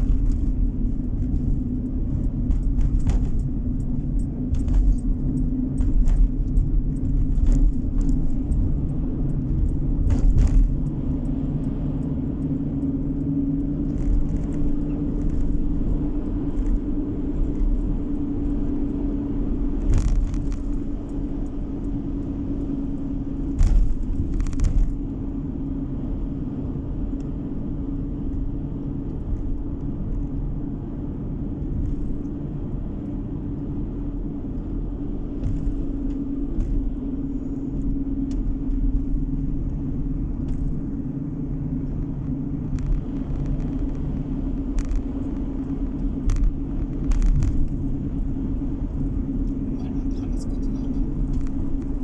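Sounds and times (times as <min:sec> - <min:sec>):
car road noise from inside: 0:00.0 - 0:52.0.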